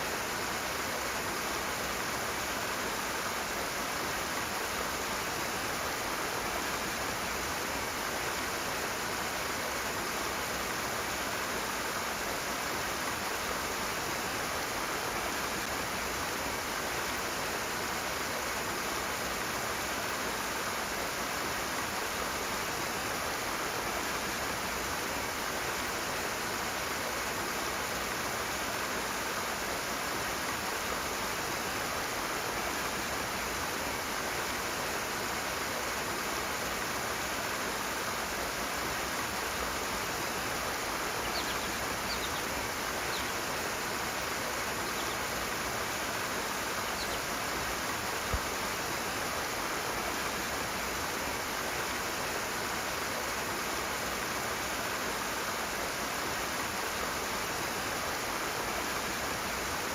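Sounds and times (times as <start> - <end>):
rushing flowing water: 0.0 - 59.9.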